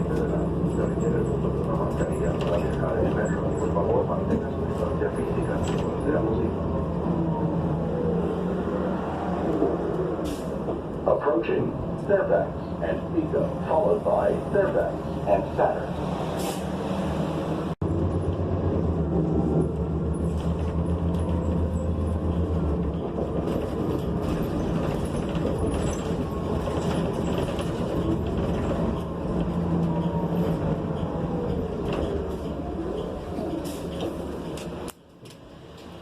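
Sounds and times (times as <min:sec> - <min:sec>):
bus engine droning: 0:00.0 - 0:36.0
road noise: 0:00.0 - 0:36.0.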